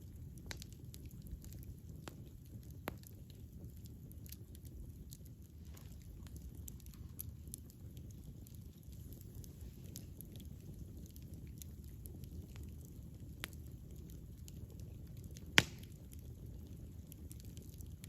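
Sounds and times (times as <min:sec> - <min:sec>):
fire crackles and pops: 0:00.0 - 0:18.0
wood fire rumble: 0:00.0 - 0:18.0.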